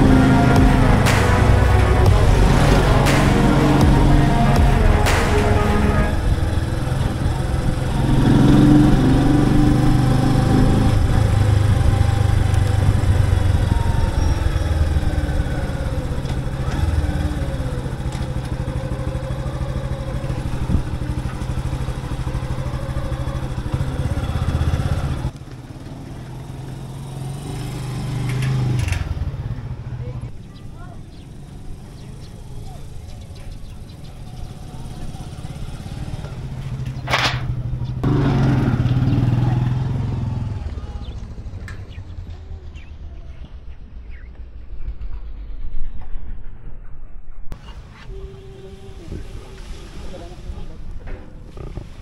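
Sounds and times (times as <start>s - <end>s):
motorcycle engine revving: 0.0s - 43.0s, 47.6s - 52.0s.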